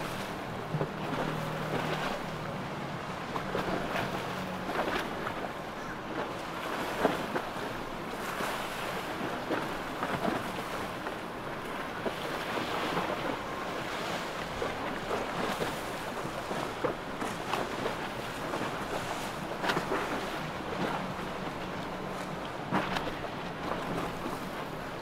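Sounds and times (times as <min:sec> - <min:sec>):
passing boat engines: 0:00.0 - 0:25.0.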